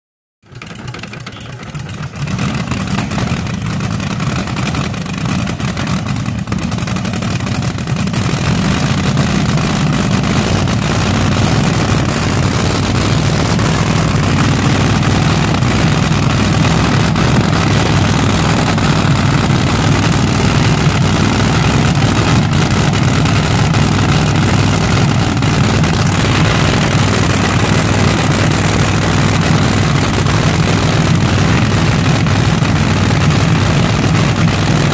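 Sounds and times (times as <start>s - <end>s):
dragster engines idling: 0.4s - 34.9s.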